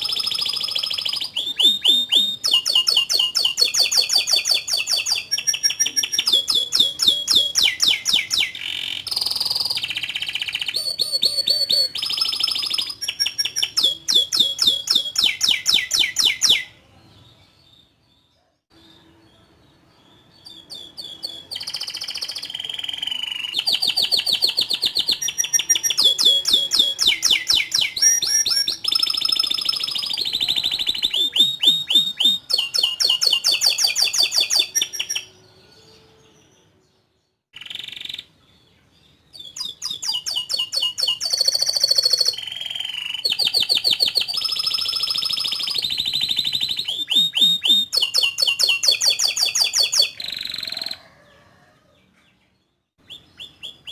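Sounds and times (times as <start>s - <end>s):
canary singing: 0.0s - 16.8s, 18.7s - 51.7s, 52.5s - 53.9s.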